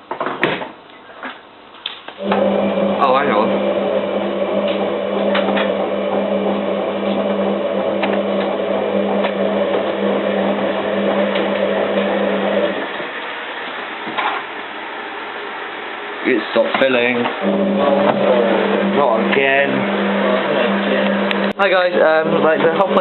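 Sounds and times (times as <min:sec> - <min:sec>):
washing machine humming: 0:02.2 - 0:23.0.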